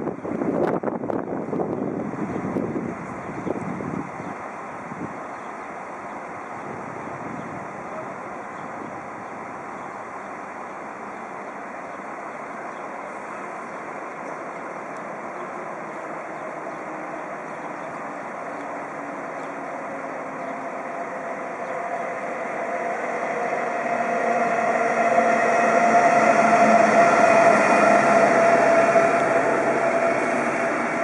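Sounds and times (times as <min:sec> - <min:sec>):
electric locomotive whine: 0:00.0 - 0:31.0
train rolling noise: 0:00.0 - 0:31.0.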